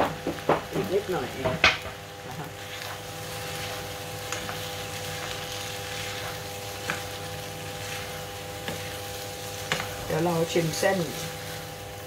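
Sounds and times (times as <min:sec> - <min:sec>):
noodles frying: 0:00.0 - 0:12.0.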